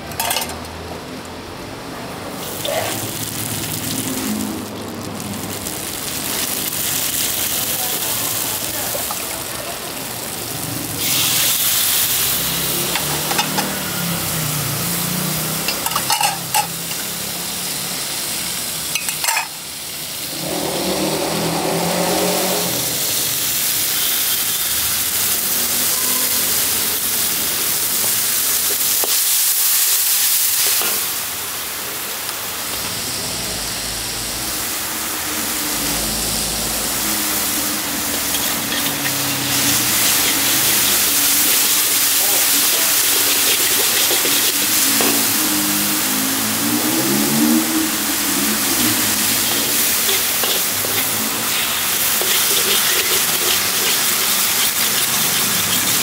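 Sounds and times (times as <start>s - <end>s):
noodles sizzling in a pan: 2.1s - 56.0s.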